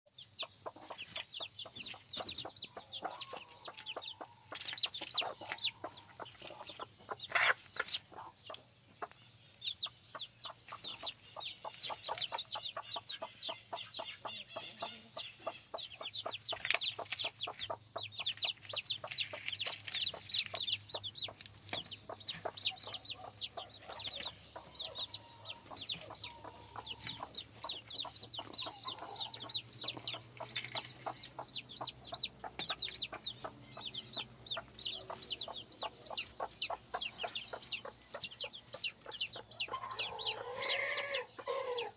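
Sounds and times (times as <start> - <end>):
chicks peeping: 0.1 - 41.9
hen clucking: 0.1 - 41.9.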